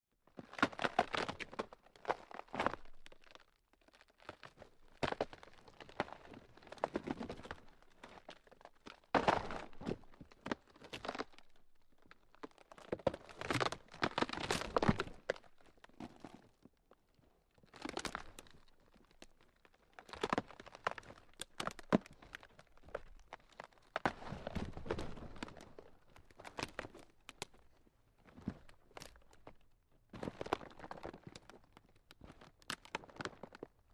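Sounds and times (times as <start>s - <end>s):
ground crackling and crunching: 0.4s - 16.9s, 17.5s - 33.9s.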